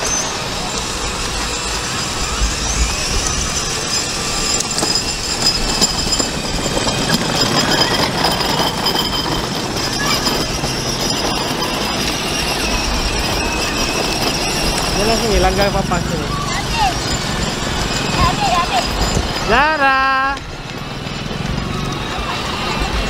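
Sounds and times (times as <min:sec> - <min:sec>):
outdoor background noise: 0:00.0 - 0:23.0
plastic wheels rumbling on bricks: 0:00.0 - 0:23.0
toy car motor whir: 0:00.0 - 0:23.0.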